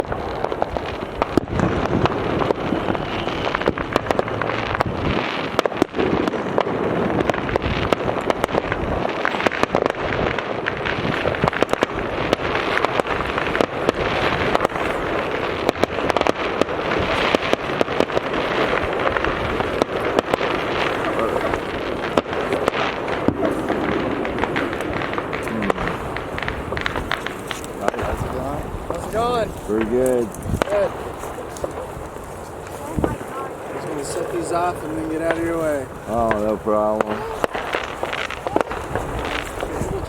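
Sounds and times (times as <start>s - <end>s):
fireworks crackling and popping: 0.0s - 40.0s.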